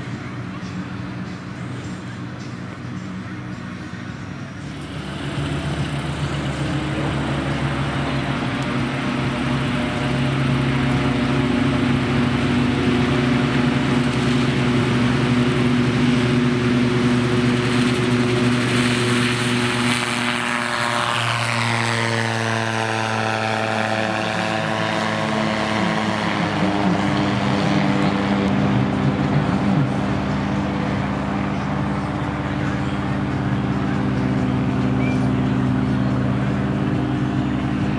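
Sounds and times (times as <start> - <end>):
gyroplane engine and propeller drone: 0.0 - 37.9.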